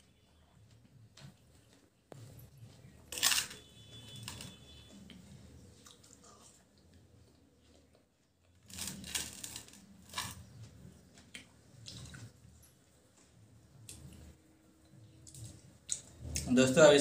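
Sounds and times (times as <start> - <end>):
watermelon being chewed: 0.7 - 16.5.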